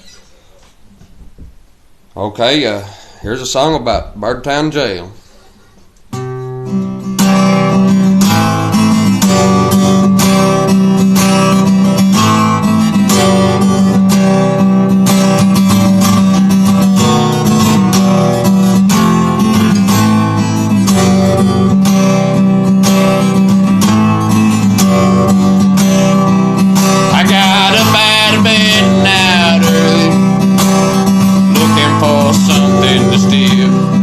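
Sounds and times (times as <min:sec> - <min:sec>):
acoustic guitar strumming: 0:00.0 - 0:01.7, 0:03.0 - 0:34.0.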